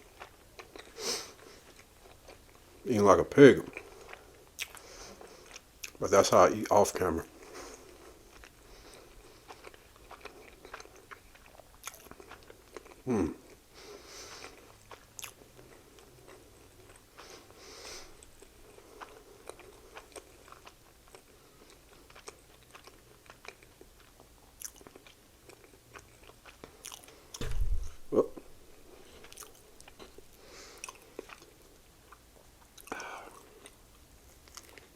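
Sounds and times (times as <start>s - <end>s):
person chewing: 0.0s - 2.8s, 3.6s - 6.0s, 7.3s - 34.9s.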